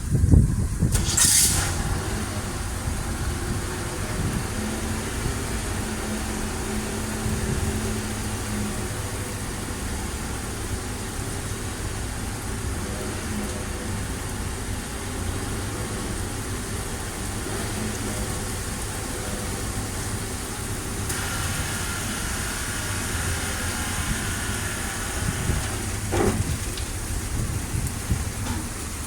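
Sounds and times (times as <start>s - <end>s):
heavy rain and wind hissing: 0.0s - 29.0s.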